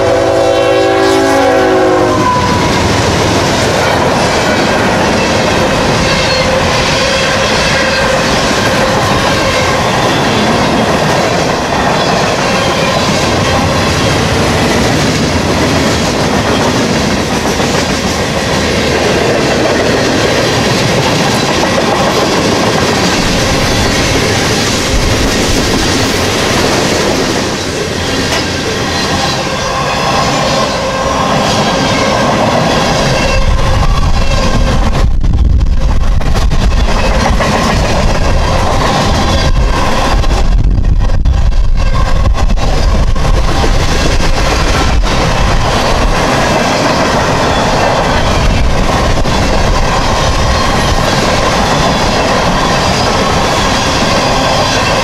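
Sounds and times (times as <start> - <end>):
freight train rolling past: 0.0 - 55.0
steel wheels clacking over rail joints: 2.4 - 55.0.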